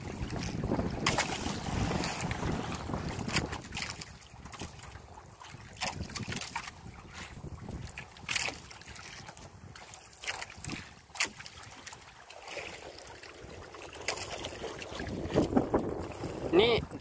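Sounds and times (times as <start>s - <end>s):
wind buffeting microphone: 0.0s - 11.1s, 13.4s - 17.0s
water washing against hull: 0.0s - 17.0s.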